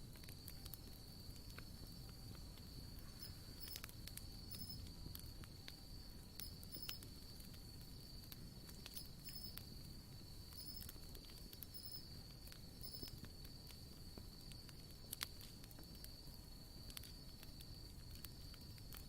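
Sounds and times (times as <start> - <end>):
campfire crackling and popping: 0.0 - 19.0
insects trilling: 0.0 - 19.0.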